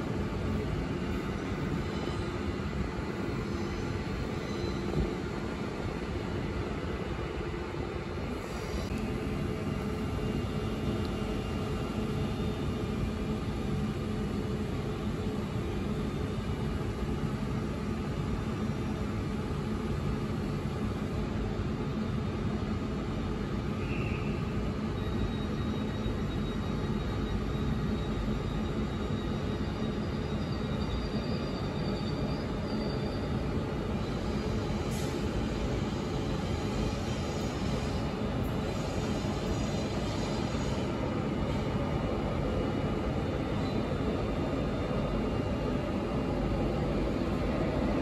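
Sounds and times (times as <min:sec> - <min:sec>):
train traction hum: 0:00.0 - 0:48.0
train wheels rumbling on rail: 0:00.0 - 0:48.0.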